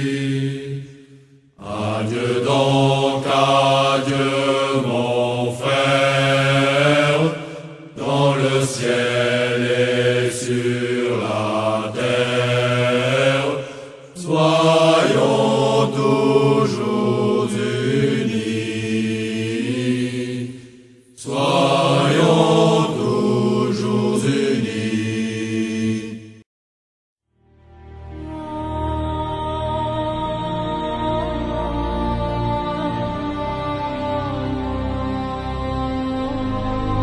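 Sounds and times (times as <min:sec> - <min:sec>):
slow chanted vocal music: 0:00.0 - 0:26.4, 0:27.4 - 0:37.0.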